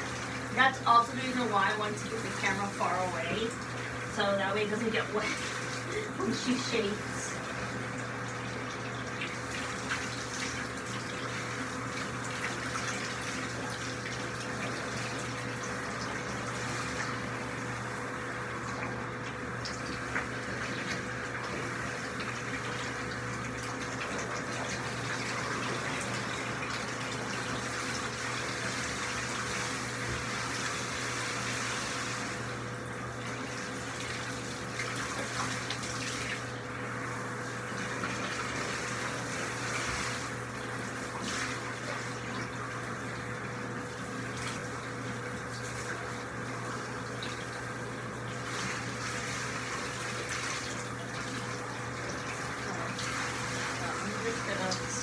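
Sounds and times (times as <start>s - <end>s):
shower sprayer running: 0.0s - 55.0s.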